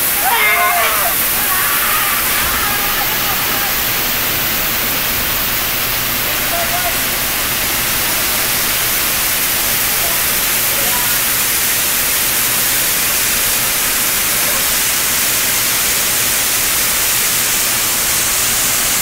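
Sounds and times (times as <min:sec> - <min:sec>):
heavy rain hissing: 0:00.0 - 0:19.0
water streaming off roof: 0:00.0 - 0:19.0.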